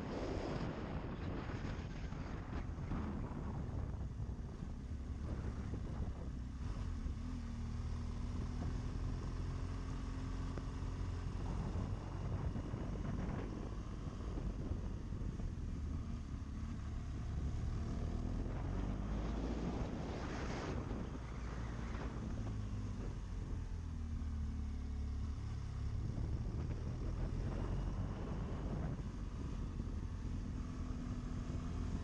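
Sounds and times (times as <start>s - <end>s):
wind noise on microphone: 0.0s - 6.9s, 8.3s - 15.8s, 16.7s - 24.0s, 25.8s - 30.5s
motorcycle engine cruising: 0.0s - 32.0s.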